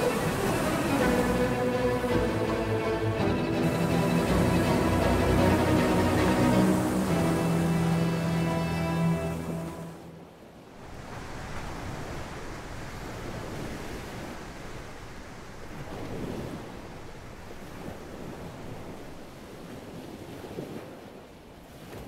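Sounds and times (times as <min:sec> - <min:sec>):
waves breaking and washing: 0:00.0 - 0:22.0
wind on microphone: 0:00.0 - 0:22.0.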